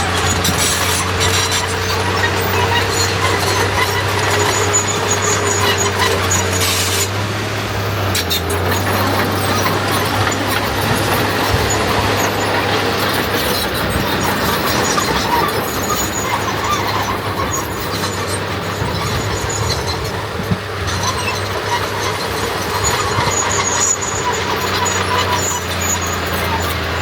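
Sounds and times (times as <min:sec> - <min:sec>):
diesel earthmoving machinery running: 0:00.0 - 0:27.0.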